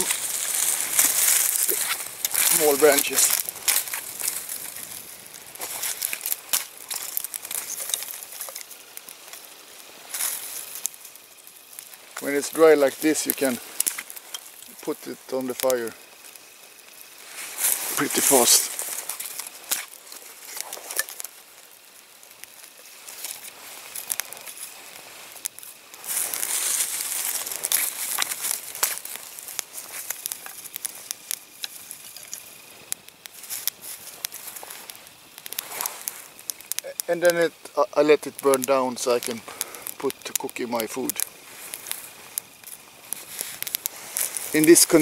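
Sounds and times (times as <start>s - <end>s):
branches rustling and snapping: 0.0s - 45.0s
campfire crackling: 0.0s - 45.0s
sticks laid on fire: 0.0s - 45.0s.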